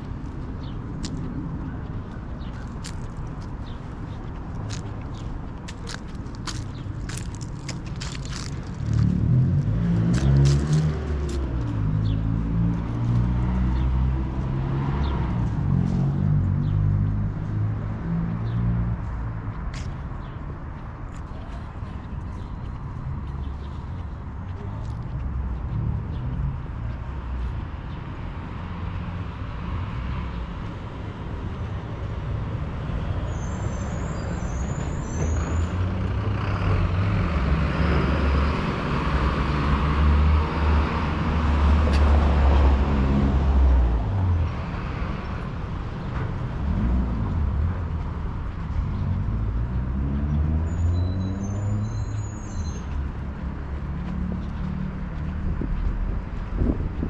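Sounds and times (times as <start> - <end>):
street traffic: 0.0 - 57.0
vehicle engine rumble passing: 2.9 - 19.4, 21.4 - 57.0.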